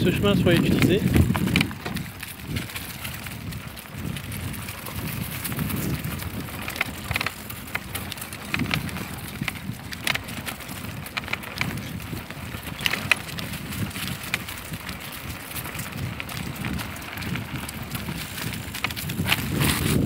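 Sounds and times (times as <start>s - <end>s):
bicycle clicks and rattles: 0.0s - 20.0s
bicycle rumbling on dirt path: 0.0s - 20.0s.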